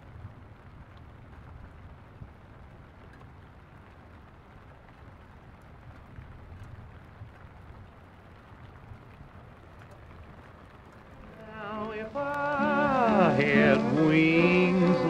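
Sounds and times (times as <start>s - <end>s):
faint steady hiss: 0.0s - 15.0s
light crackles: 0.0s - 15.0s.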